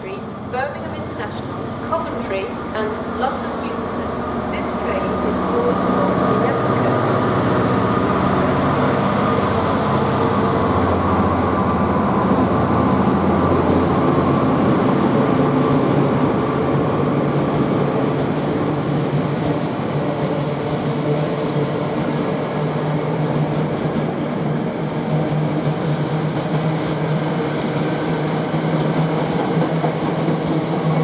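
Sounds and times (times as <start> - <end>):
diesel locomotive engine drone: 0.0 - 31.0
train rumbling on rails: 0.0 - 31.0.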